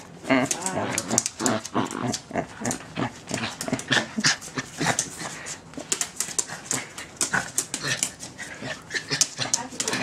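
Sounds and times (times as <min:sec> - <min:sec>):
dog panting: 0:00.6 - 0:10.0.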